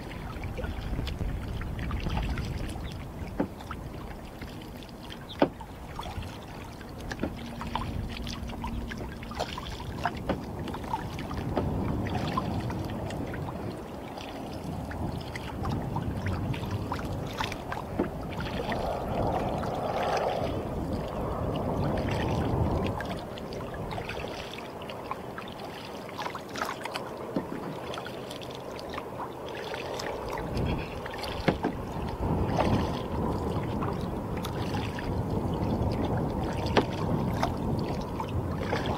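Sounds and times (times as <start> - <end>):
small drips and clicks: 0.0 - 38.9
water sloshing around kayak: 0.0 - 38.9.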